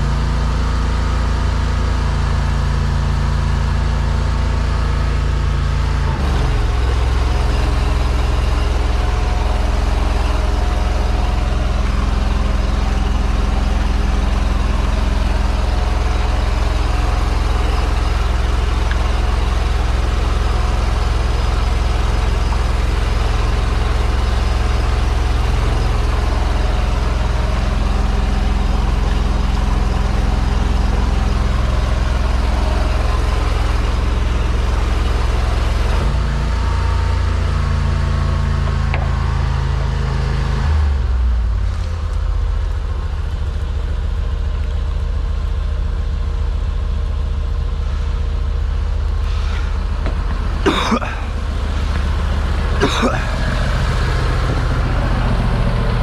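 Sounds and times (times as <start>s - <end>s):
sewer jetter engine running: 0.0s - 56.0s.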